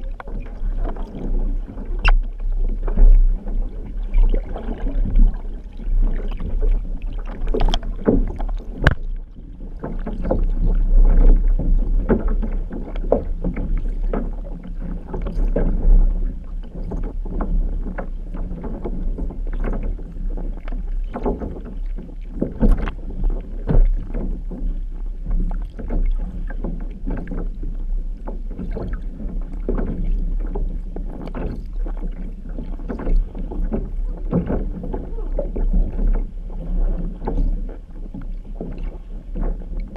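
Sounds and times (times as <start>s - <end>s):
paddles striking water: 0.0s - 39.9s
water rushing past hull: 0.0s - 39.9s.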